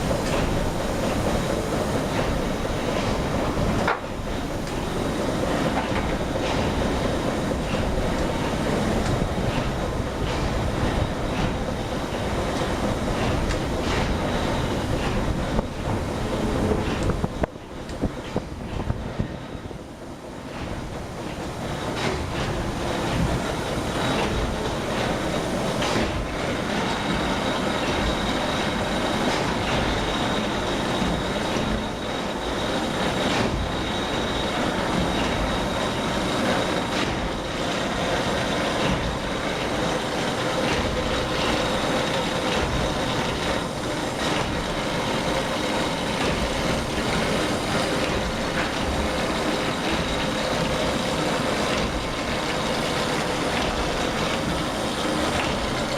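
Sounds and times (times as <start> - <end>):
mechanical knocks and clatters: 0.0 - 55.9
steam engine machinery din: 0.0 - 55.9.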